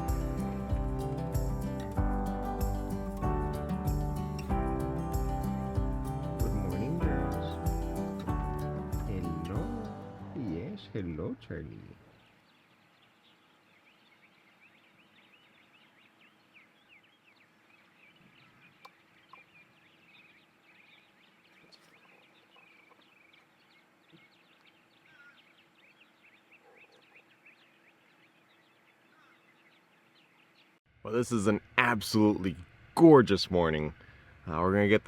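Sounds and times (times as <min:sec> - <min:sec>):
small birds chirping: 0:00.0 - 0:31.3.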